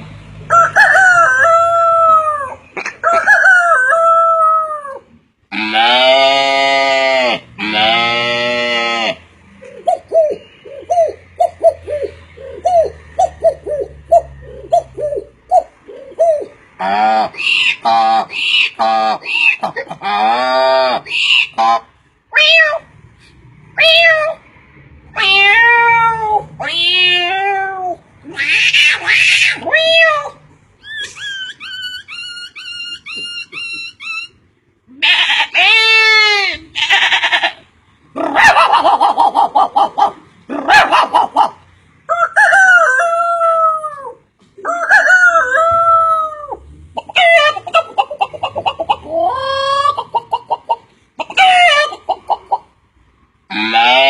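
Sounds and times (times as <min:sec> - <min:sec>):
animal calls: 0:00.5 - 0:22.9, 0:25.1 - 0:52.7, 0:53.5 - 0:54.0.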